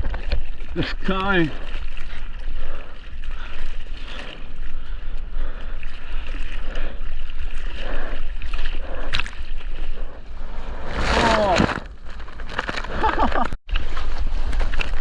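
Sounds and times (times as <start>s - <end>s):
seawater sloshing and splashing: 0.0s - 13.5s
low rumble of water and wind: 0.0s - 15.0s.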